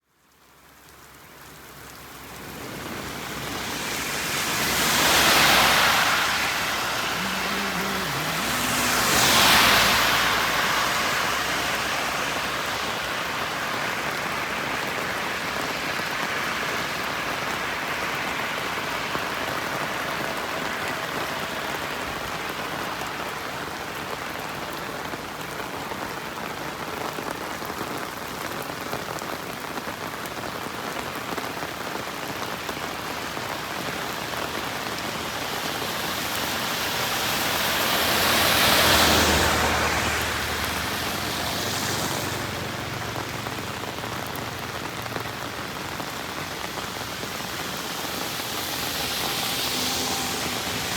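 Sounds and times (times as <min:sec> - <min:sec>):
heavy rain falling: 0:00.0 - 0:50.9
vehicles passing on wet road: 0:00.1 - 0:50.9.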